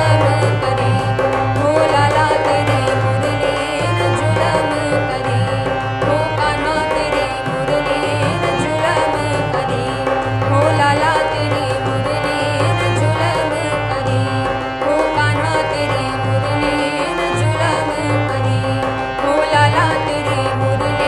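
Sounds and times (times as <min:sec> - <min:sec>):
harmonium chords: 0:00.0 - 0:21.0
woman singing devotional song: 0:00.0 - 0:21.0.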